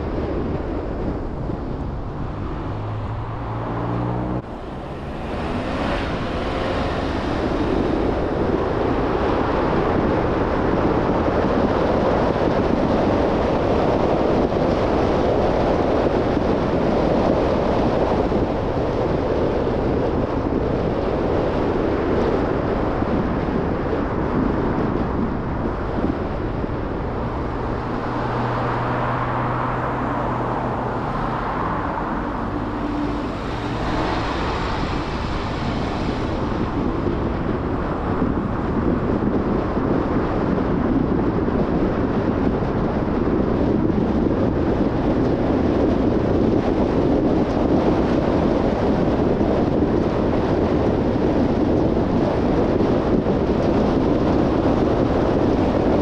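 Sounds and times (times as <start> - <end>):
tyre and wind noise: 0.0 - 56.0.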